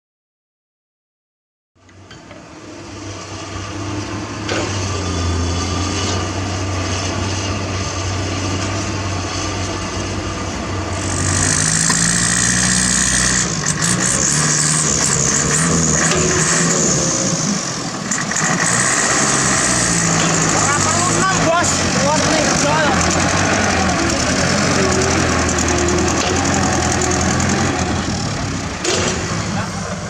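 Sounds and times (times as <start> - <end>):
heavy diesel machinery engines: 1.8 - 30.0.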